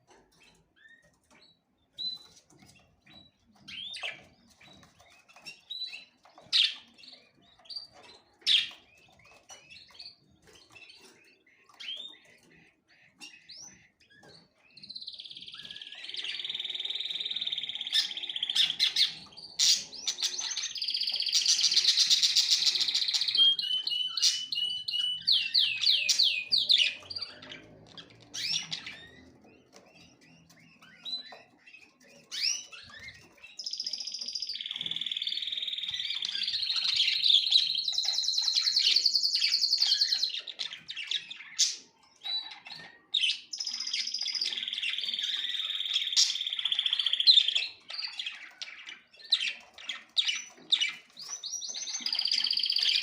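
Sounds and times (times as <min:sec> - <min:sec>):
songbirds trilling: 0:00.0 - 0:53.0.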